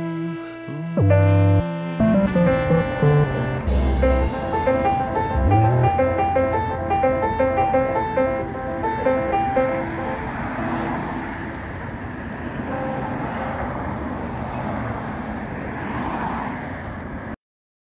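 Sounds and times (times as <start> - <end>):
cars passing on road: 0.0 - 17.4.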